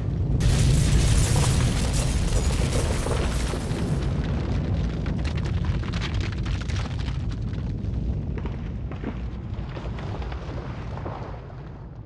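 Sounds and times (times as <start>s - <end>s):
building shaking in earthquake: 0.0s - 12.0s.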